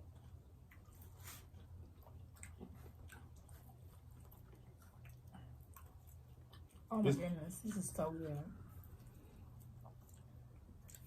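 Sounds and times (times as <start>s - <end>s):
faint chewing of food: 0.0s - 11.0s
low steady hum: 0.0s - 11.0s.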